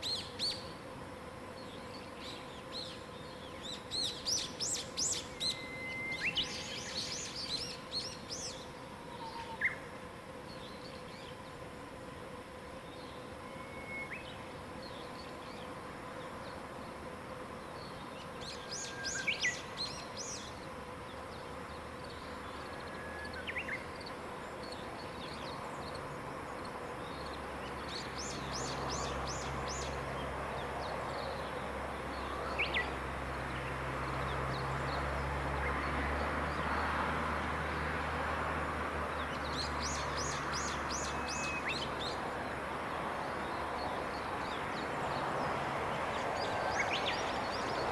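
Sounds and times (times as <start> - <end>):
songbirds singing: 0.0 - 0.8, 1.4 - 12.0, 12.6 - 47.9.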